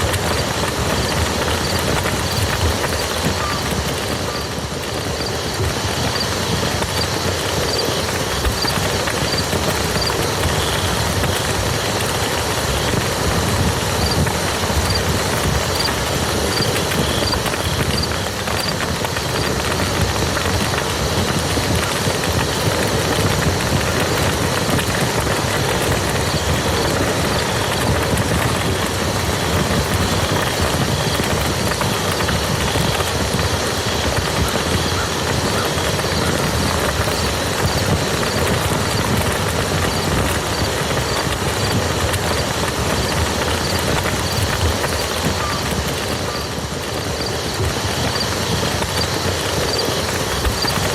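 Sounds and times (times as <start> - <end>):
steady rain on a muddy field: 0.0 - 50.9.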